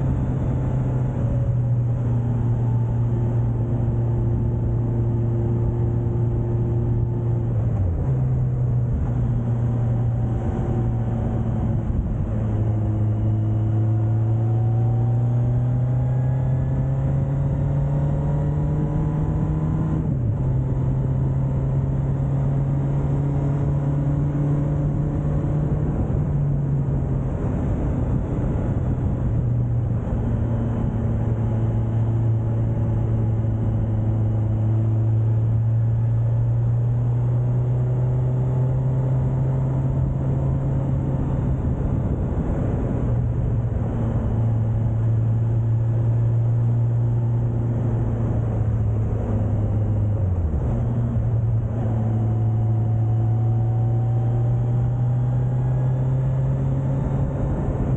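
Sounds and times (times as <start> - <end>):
motorcycle engine accelerating: 0.0 - 57.9
wind and road noise: 0.0 - 57.9.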